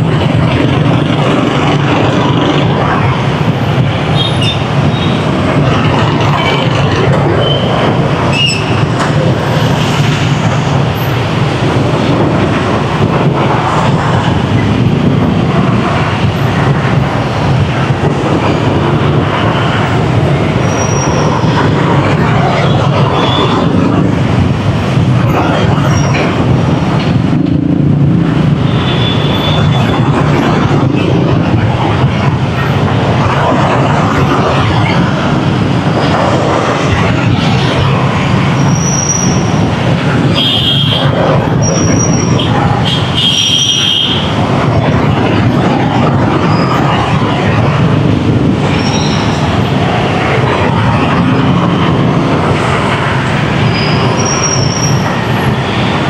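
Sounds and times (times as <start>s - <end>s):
scooter engines and road noise: 0.0s - 56.0s.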